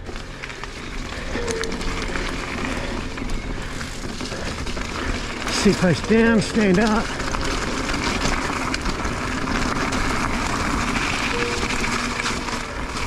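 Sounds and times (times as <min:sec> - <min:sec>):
bike tyres on rocky trail: 0:00.0 - 0:13.0.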